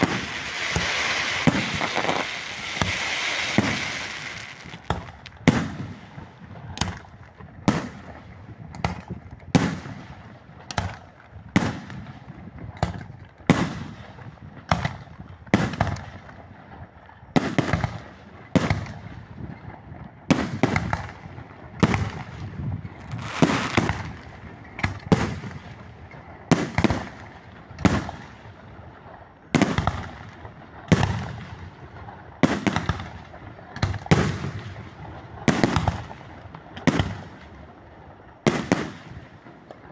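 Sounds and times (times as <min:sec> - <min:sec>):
fireworks bangs echoing: 0:00.0 - 0:37.8, 0:38.4 - 0:39.9.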